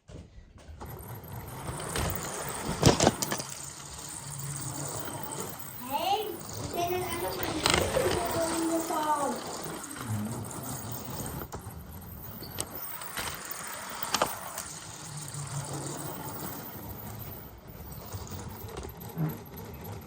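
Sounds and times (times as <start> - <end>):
sharp clicks and rattles: 0.8 - 20.0
toy train motor humming: 0.8 - 20.0.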